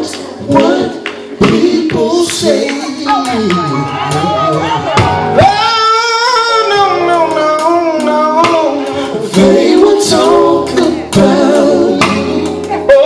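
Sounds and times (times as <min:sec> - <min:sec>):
drums: 0:00.0 - 0:13.0
gospel quartet singing: 0:00.0 - 0:13.0
guitar: 0:00.0 - 0:13.0.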